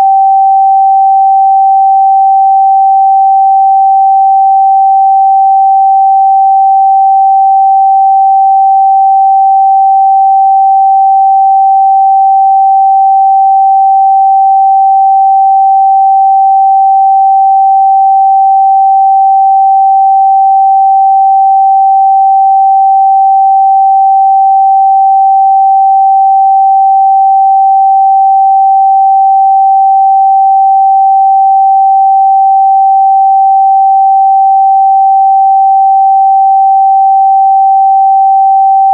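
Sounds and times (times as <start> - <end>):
sine test tone: 0.0 - 38.9.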